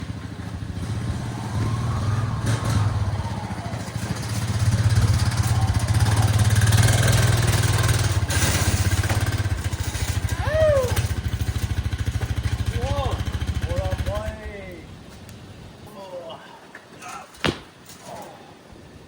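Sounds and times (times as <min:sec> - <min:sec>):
engine running: 0:00.0 - 0:15.9.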